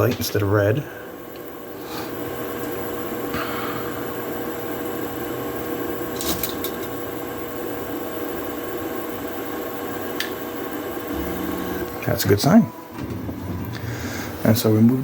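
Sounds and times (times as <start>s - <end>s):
hum of fans and stepper motors: 0.0s - 15.0s.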